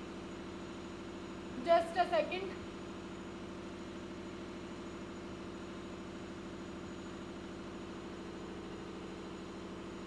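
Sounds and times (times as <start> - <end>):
low mechanical hum with flutter: 0.0 - 10.0.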